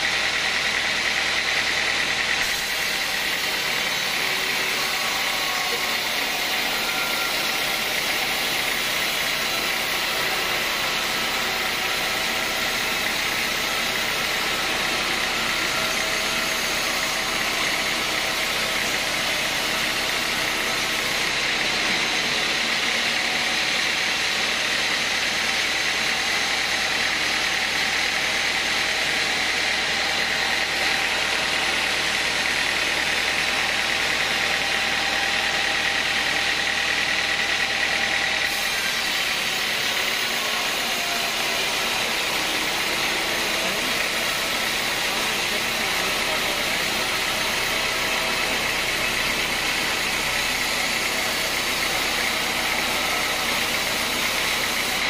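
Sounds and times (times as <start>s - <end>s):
band saw cutting through log: 0.0s - 55.0s.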